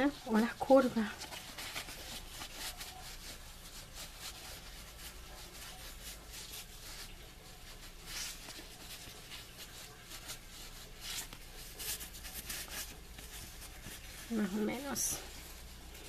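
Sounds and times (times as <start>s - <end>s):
fabric rustling and rubbing: 0.0s - 16.0s.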